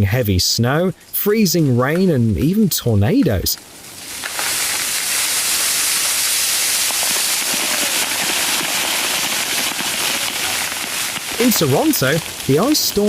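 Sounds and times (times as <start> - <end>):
freezing rain hissing: 0.3 - 13.0.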